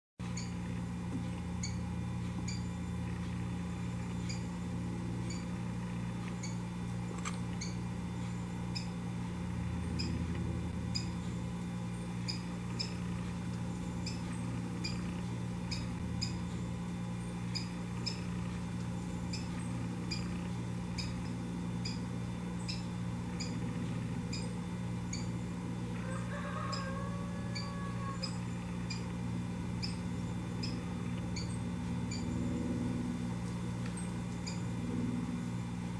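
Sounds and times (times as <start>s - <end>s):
steady low hum: 0.2s - 35.9s
sparrow call notes: 1.4s - 32.7s.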